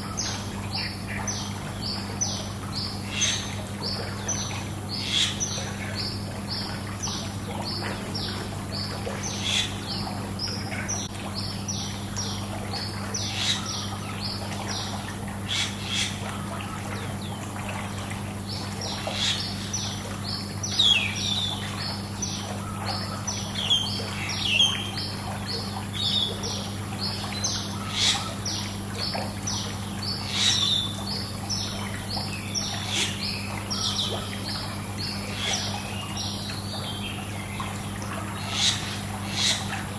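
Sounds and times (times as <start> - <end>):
constant low hum: 0.0 - 39.9
running pool water: 0.0 - 39.9.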